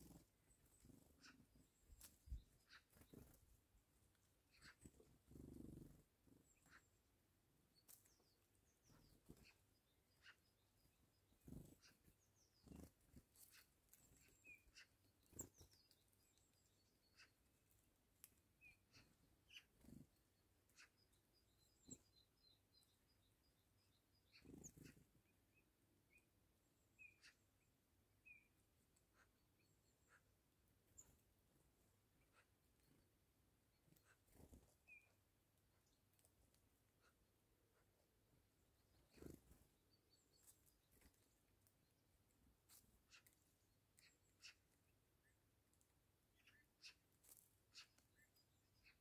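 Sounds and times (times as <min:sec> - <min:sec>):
distant small birds chirping: 0:00.0 - 0:49.0.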